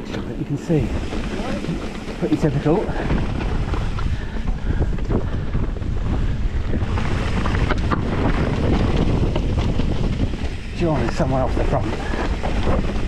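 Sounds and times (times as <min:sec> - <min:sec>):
tyres rolling over stones: 0:00.0 - 0:05.4, 0:06.2 - 0:13.0
bike clattering and knocking: 0:00.0 - 0:13.0
wind buffeting microphone: 0:00.0 - 0:13.0.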